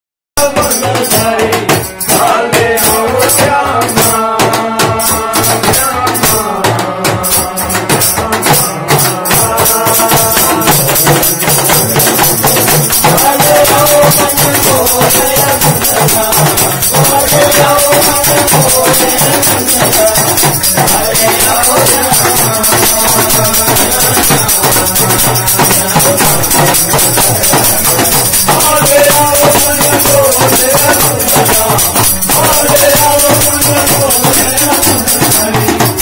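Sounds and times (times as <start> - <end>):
barrel drum: 0.4 - 36.0
men singing together: 0.4 - 36.0.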